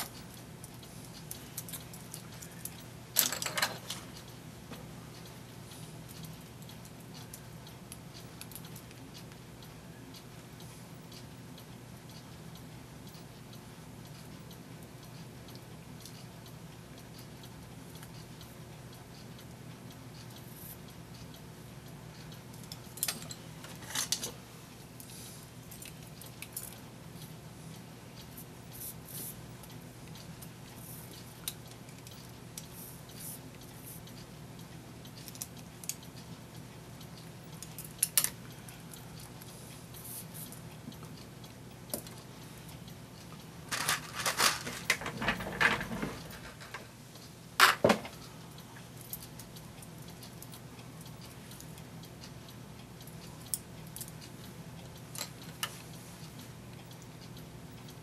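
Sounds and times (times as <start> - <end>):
metallic clicks of clock parts: 0.0 - 58.0.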